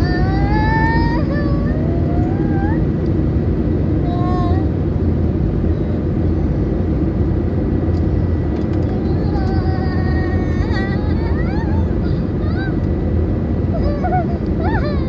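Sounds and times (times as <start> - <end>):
airplane cabin engine noise: 0.0 - 15.0.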